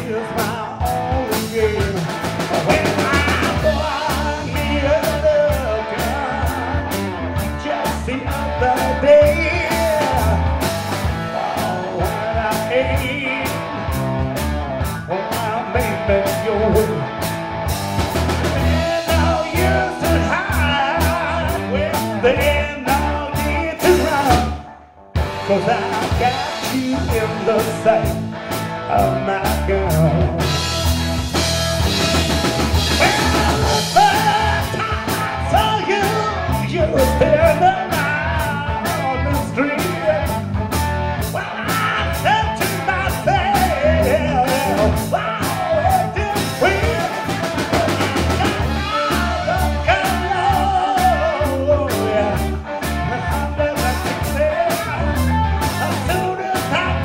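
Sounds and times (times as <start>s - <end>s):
man singing: 0.0s - 14.2s, 14.9s - 17.2s, 18.5s - 24.8s, 25.4s - 30.8s, 32.0s - 57.0s
bass guitar: 0.0s - 57.0s
drum kit beat: 0.0s - 57.0s
electric guitars: 0.0s - 57.0s.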